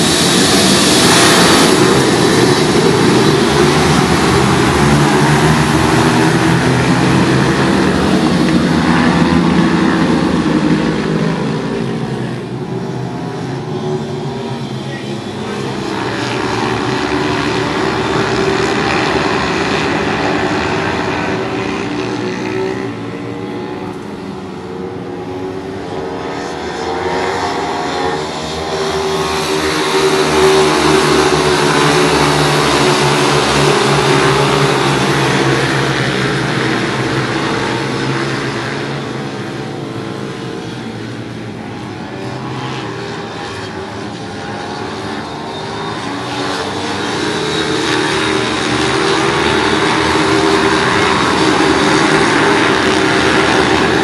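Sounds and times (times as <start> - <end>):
pit bike engines racing: 0.0 - 54.0.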